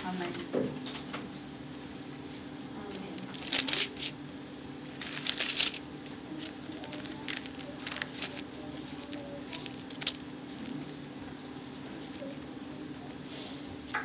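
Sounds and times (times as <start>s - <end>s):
steady low hum: 0.0s - 14.0s
crinkling handling noise: 1.8s - 14.0s.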